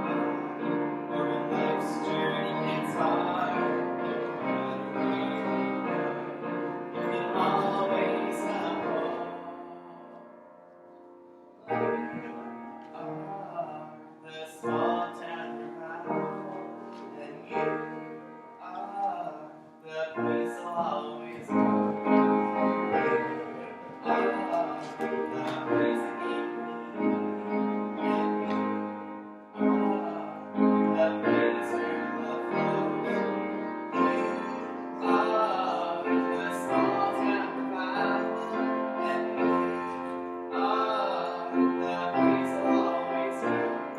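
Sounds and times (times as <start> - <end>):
piano chords ringing: 0.0 - 43.9.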